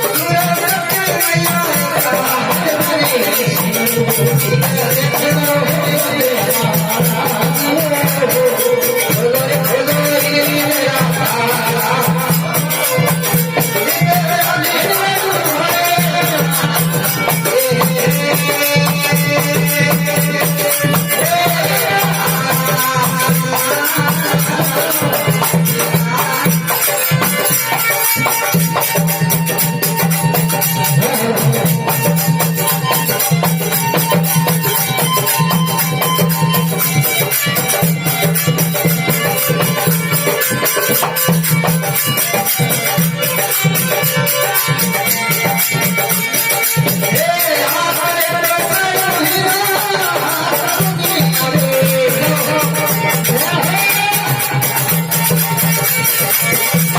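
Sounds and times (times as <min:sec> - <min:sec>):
fast jingling percussion: 0:00.0 - 0:56.9.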